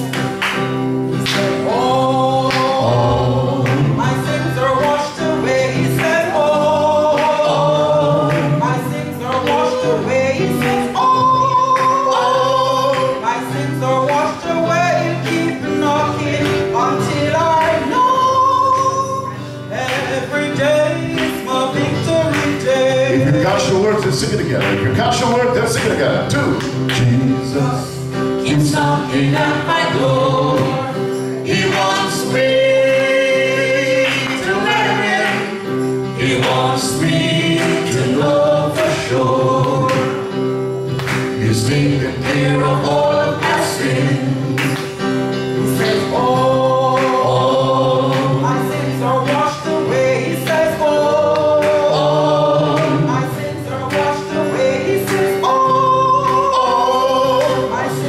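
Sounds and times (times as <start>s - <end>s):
instrumental accompaniment with percussion: 0.0s - 57.9s
voices singing together: 0.0s - 58.0s.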